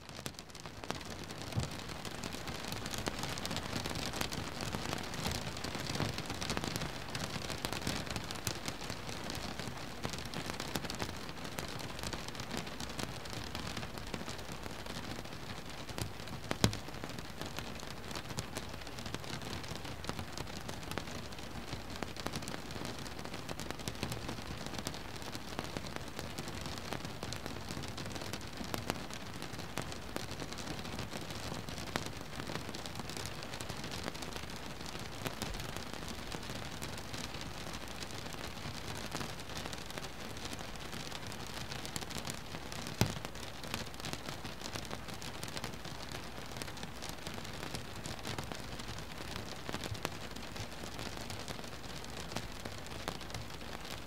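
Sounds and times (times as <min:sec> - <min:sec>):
rain falling on a boat: 0:00.0 - 0:54.0.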